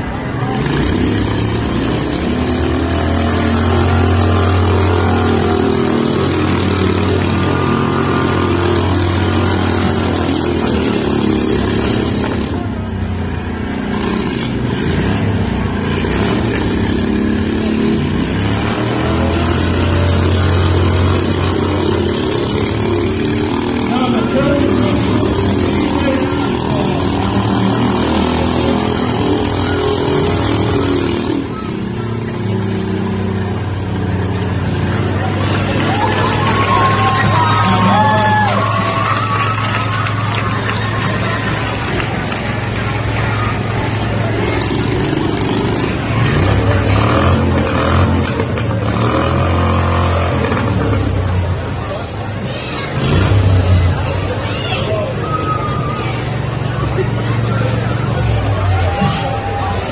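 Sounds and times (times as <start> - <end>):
small tractor engines revving: 0.0 - 59.9.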